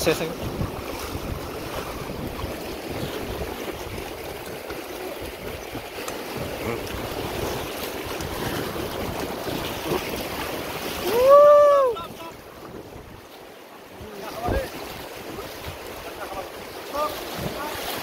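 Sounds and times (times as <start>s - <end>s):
wind buffeting microphone: 0.0s - 13.3s, 14.0s - 18.0s
river water rushing and splashing: 0.0s - 18.0s.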